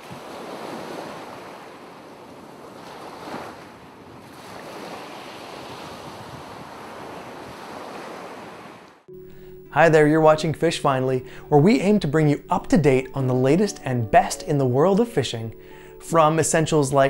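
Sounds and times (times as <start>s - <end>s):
ocean waves washing: 0.0s - 17.0s.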